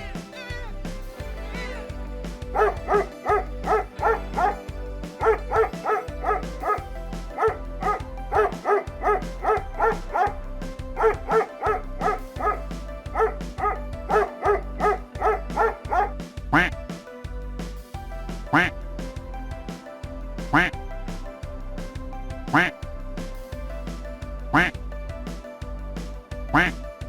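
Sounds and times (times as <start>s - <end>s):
background music: 0.0s - 27.0s.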